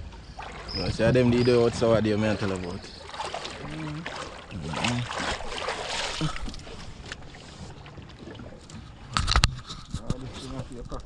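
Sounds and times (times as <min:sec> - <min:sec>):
low steady hum: 0:00.0 - 0:11.0
water around a boat: 0:00.0 - 0:11.0.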